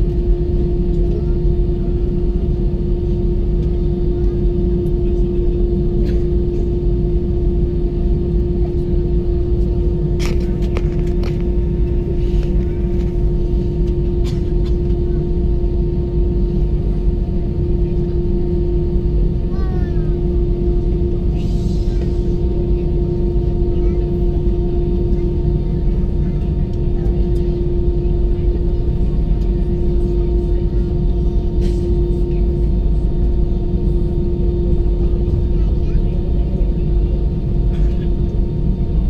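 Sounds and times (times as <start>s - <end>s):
constant hum: 0.0s - 39.0s
jet engines droning: 0.0s - 39.0s.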